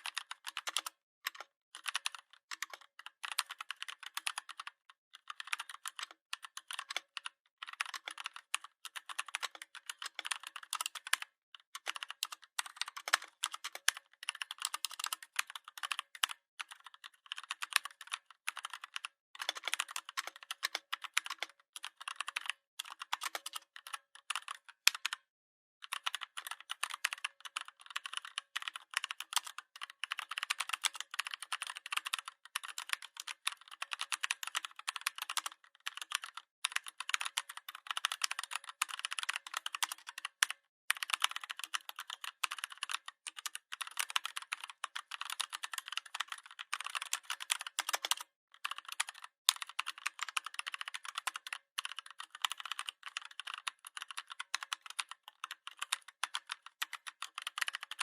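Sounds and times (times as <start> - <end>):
typing on computer keyboard: 0.0 - 58.0.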